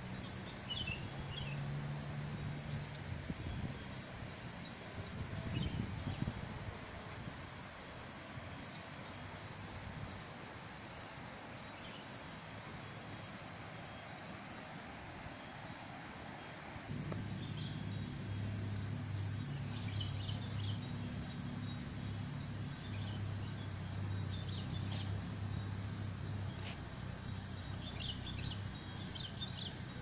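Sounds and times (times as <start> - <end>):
insect drone: 0.0 - 30.0.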